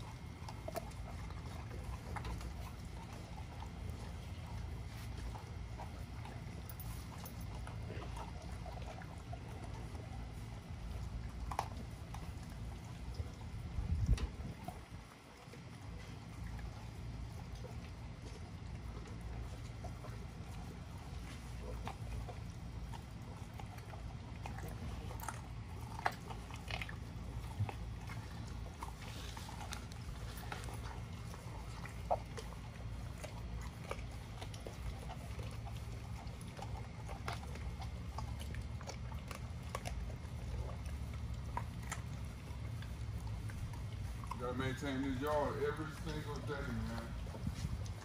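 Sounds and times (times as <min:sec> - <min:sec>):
dogs chewing raw chicken: 0:00.0 - 0:48.0.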